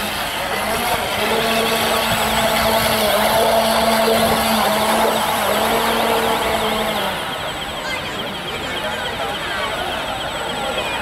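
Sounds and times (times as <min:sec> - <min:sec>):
model boat motor whine: 0:00.0 - 0:11.0.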